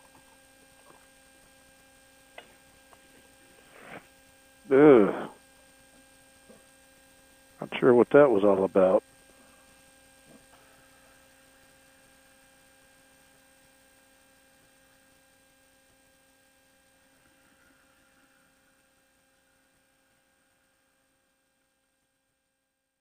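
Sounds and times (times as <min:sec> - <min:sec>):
faint electrical hum: 0:00.0 - 0:23.0.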